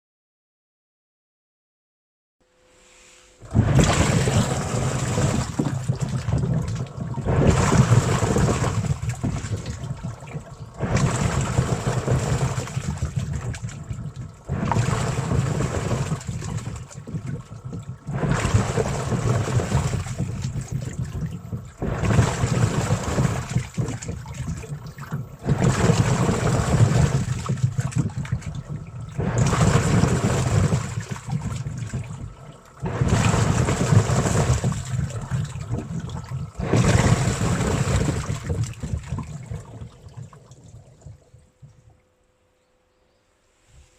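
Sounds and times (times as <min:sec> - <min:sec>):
washing machine churning water: 0:03.3 - 0:42.3.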